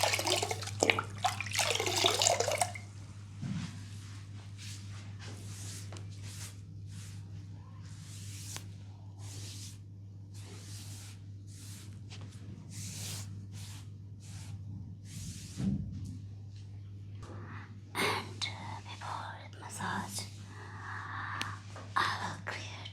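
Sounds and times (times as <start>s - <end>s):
low steady hum: 0.0s - 22.9s.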